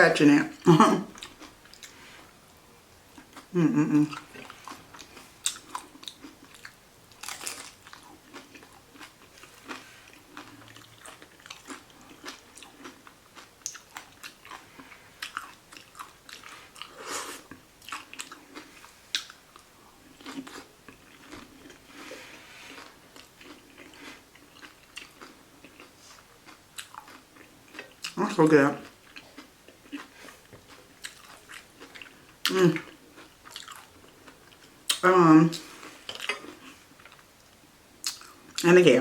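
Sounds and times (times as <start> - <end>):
chewing crunches: 1.1 - 2.2, 3.1 - 28.2, 28.8 - 37.3, 38.0 - 38.6.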